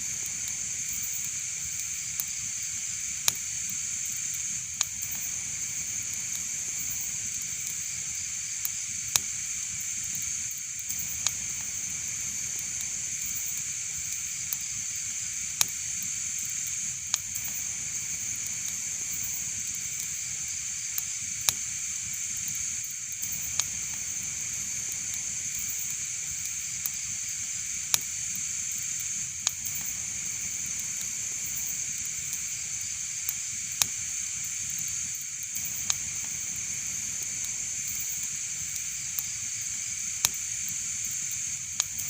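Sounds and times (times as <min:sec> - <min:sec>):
loud fire snap: 0:00.0 - 0:42.0
wood fire crackling: 0:00.0 - 0:42.0.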